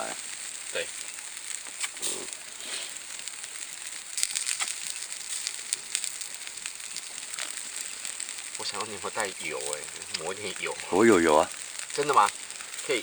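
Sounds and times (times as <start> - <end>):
campfire hissing and crackling: 0.0 - 13.0.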